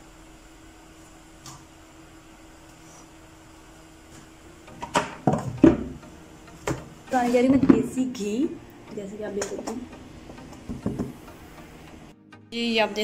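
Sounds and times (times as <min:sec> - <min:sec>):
low room hum: 0:00.0 - 0:12.2.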